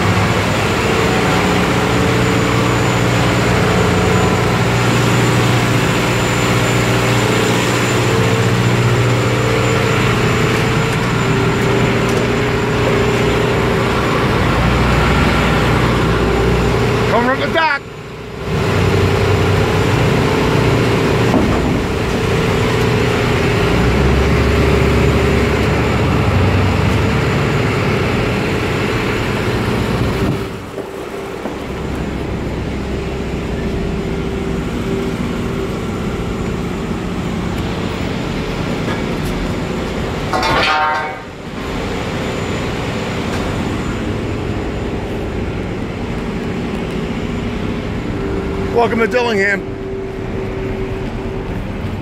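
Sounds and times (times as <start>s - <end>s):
heavy engine machinery drone: 0.0s - 52.0s.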